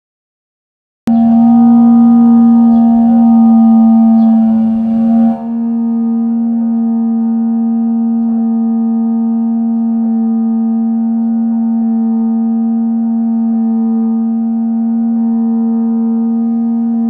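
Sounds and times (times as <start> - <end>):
gimbal motor humming: 1.1 - 17.0.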